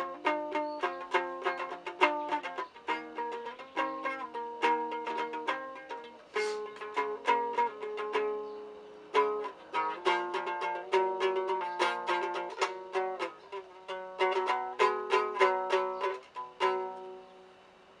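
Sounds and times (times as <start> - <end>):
plucked lute strummed rhythmically: 0.0 - 17.4.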